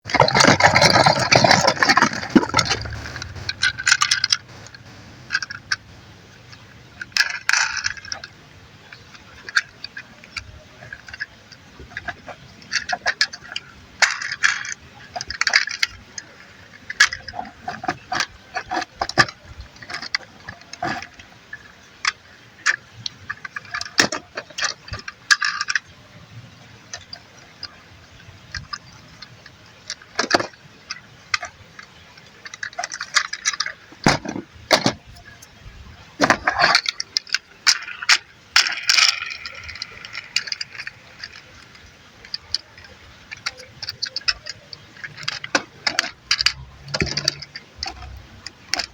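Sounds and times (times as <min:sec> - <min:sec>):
plastic toy parts clicking: 0:00.1 - 0:35.6, 0:36.2 - 0:48.9.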